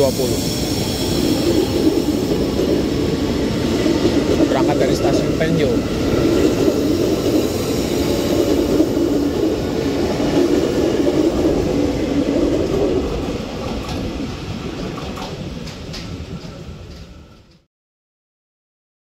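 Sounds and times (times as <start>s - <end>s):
train wheels rumbling past: 0.0s - 17.7s.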